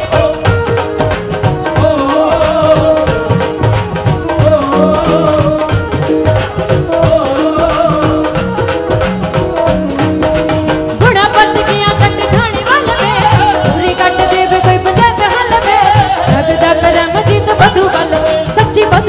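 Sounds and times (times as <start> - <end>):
melodic lead line: 0.0 - 18.8
steady drum beat: 0.0 - 19.0.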